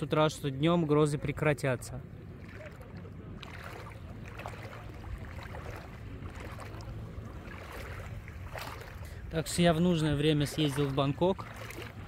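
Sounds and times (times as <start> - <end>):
low steady rumble: 0.0 - 12.0
seawater lapping and trickling: 0.0 - 12.0.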